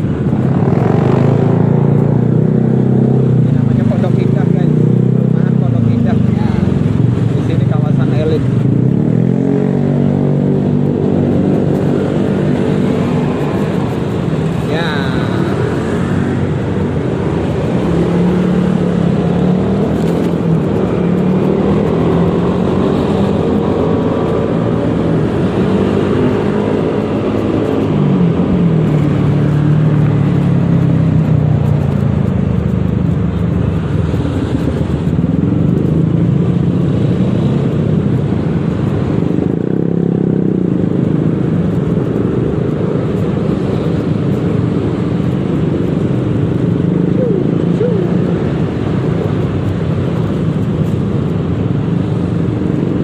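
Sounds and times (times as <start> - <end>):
surrounding traffic noise: 0.0 - 53.0.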